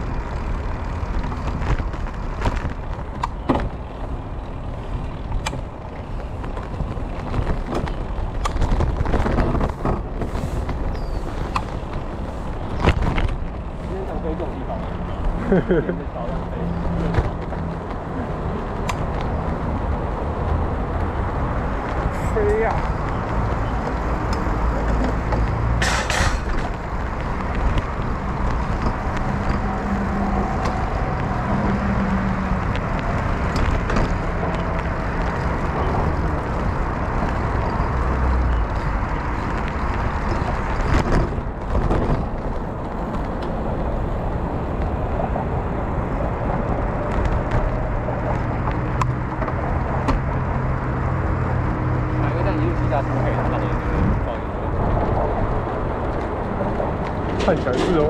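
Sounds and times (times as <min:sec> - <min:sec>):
low road rumble: 0:00.0 - 0:58.0
wind rushing on microphone: 0:00.0 - 0:58.0.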